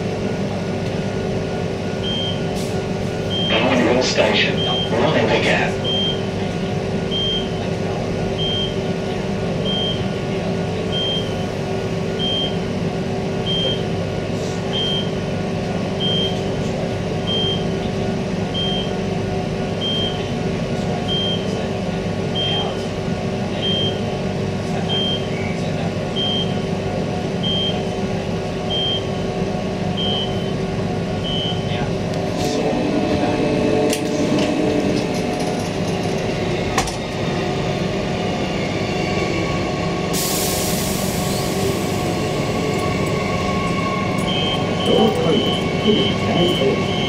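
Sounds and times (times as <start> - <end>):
train electric hum: 0.0 - 47.0.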